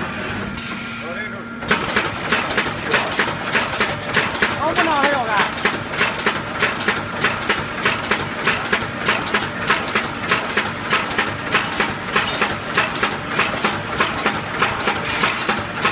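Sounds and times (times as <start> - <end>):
welding machine clattering: 1.7 - 15.9.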